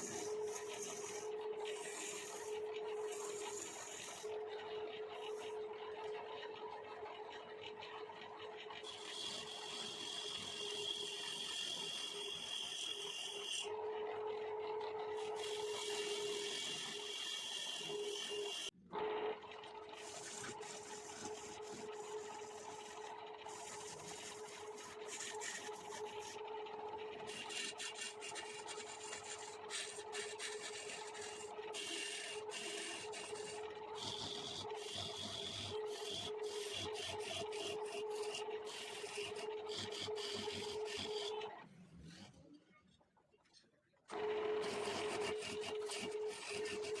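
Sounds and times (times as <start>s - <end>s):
tool scraping spinning wood: 0.0s - 13.7s, 15.1s - 18.7s, 20.0s - 41.5s, 44.4s - 47.0s
lathe humming: 0.0s - 19.2s, 19.9s - 41.5s, 44.1s - 47.0s.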